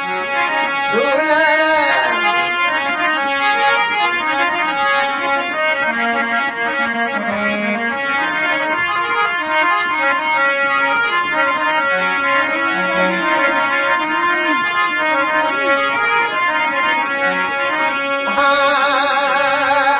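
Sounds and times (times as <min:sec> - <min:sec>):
reedy keyboard melody: 0:00.0 - 0:19.9.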